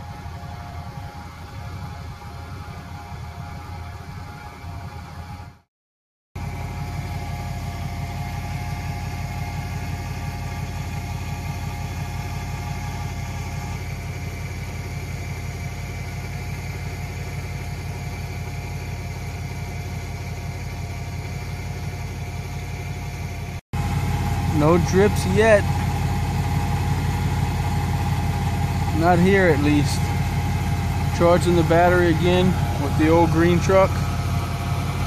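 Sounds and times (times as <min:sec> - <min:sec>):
engine idling: 0:00.0 - 0:05.6, 0:06.4 - 0:35.0.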